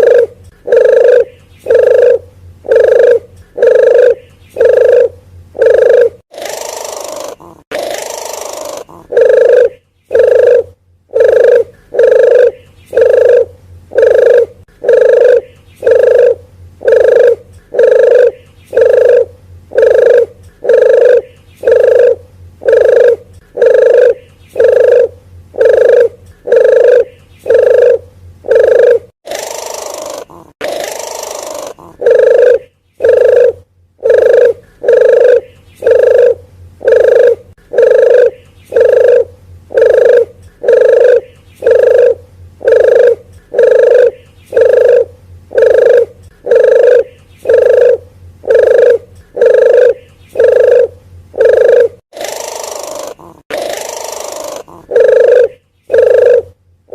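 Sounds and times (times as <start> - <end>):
dove cooing: 0.0 - 56.6.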